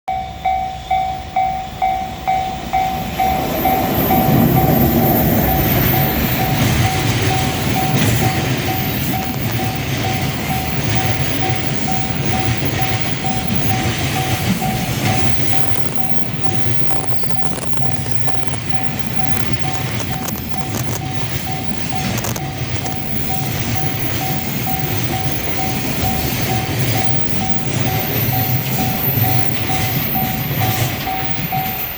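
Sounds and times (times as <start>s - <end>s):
freight train rumble and wheel clatter: 0.1s - 31.9s
level crossing bell ringing: 0.1s - 31.9s.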